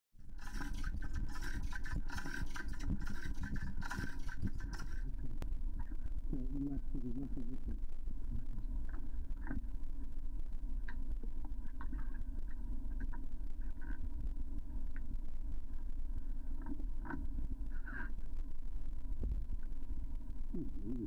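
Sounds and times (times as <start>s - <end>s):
faint hum: 0.2s - 21.0s
underwater rumble: 0.2s - 21.0s.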